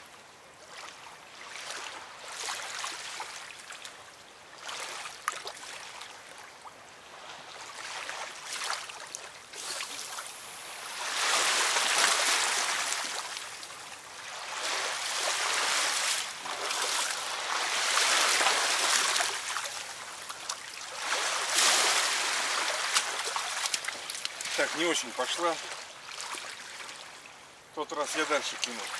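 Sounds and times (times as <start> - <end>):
river water lapping at bank: 0.0 - 28.9.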